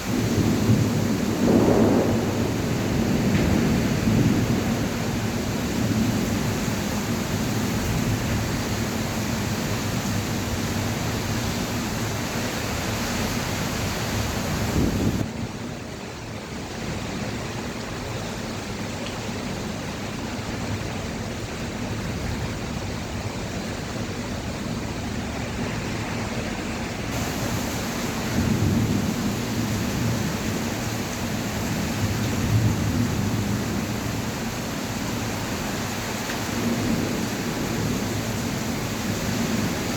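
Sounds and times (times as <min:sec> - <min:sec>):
heavy rain hissing: 0:00.0 - 0:15.4, 0:23.1 - 0:39.9.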